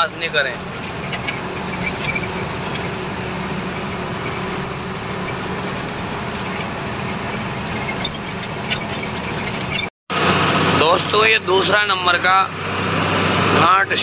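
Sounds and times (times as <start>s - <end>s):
truck engine hum: 0.0s - 14.0s
tyre road and wind noise: 0.0s - 14.0s.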